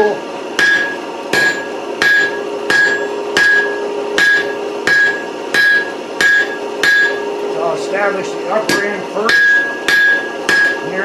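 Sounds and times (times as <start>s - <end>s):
hammer striking hot steel on anvil: 0.0s - 7.4s, 8.6s - 11.0s.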